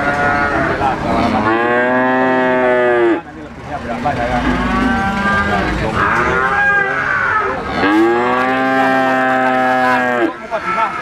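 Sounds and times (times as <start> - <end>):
cattle mooing: 0.0 - 3.3, 4.1 - 11.0.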